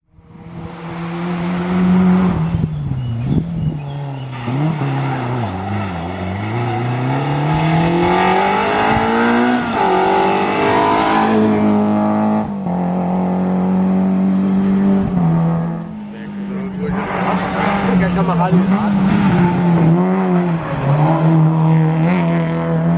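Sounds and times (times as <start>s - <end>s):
rally car engine revving: 0.2s - 22.9s.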